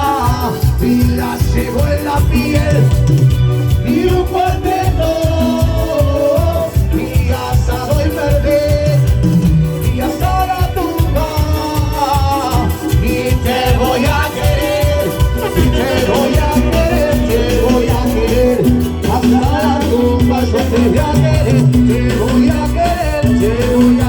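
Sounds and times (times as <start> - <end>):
latin dance music with singer: 0.0 - 24.0.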